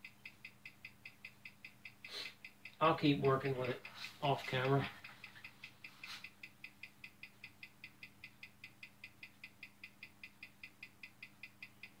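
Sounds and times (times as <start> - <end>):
watch ticking: 0.0 - 12.0.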